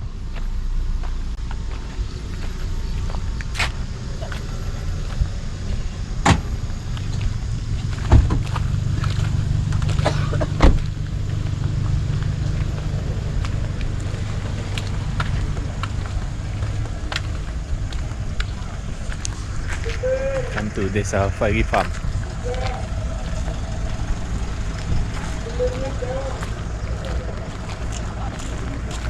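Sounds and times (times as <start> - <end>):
vehicle engine low rumble: 0.0 - 29.0.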